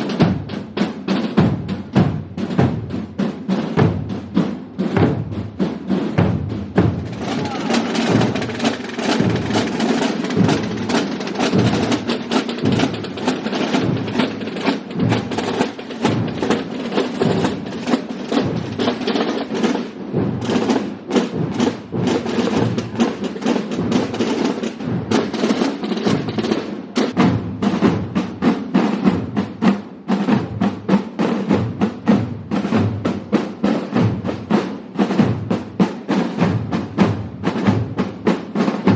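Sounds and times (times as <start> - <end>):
massed procession drums: 0.0 - 38.9.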